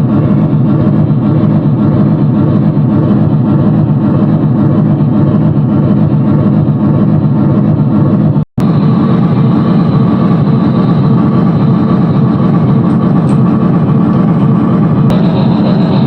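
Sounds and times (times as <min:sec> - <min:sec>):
heavy vehicle engine rumble: 0:00.0 - 0:16.0.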